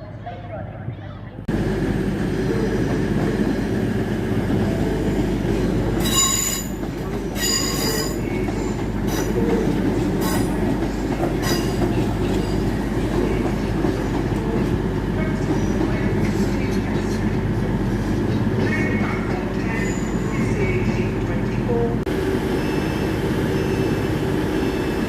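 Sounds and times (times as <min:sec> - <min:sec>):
train rumbling over rails: 0:00.0 - 0:25.0.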